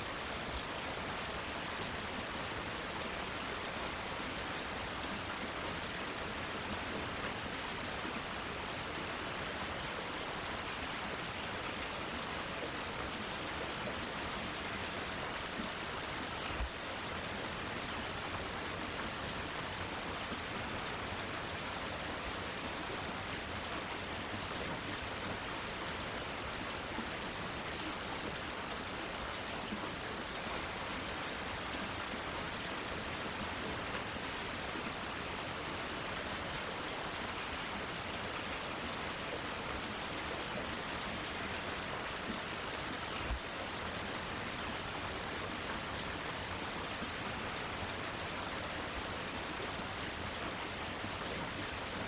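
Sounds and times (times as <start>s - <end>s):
rain falling on foliage: 0.0s - 52.0s.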